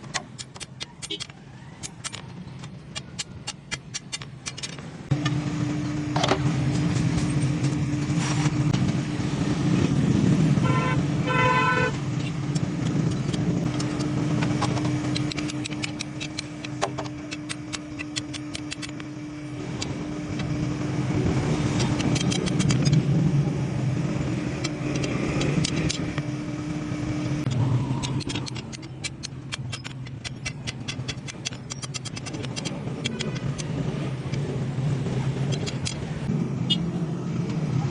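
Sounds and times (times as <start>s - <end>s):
steady machine hum: 3.6s - 37.9s.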